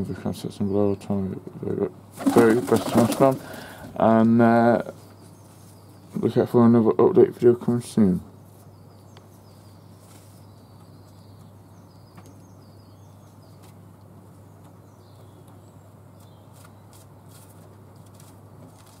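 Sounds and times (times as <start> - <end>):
small birds chirping: 0.0 - 18.3.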